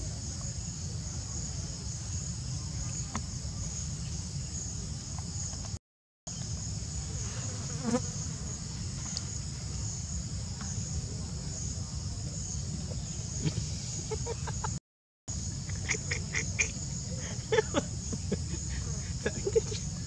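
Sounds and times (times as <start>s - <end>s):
insect chorus drone: 0.0s - 20.0s.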